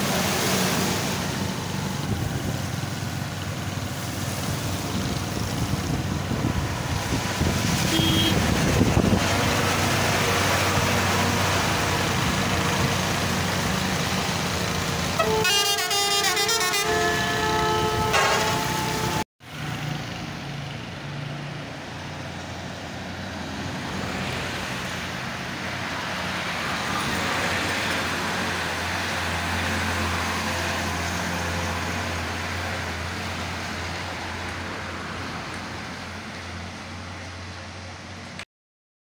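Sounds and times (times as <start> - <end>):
heavy truck engine hum: 0.0 - 38.4
road noise: 0.0 - 38.4.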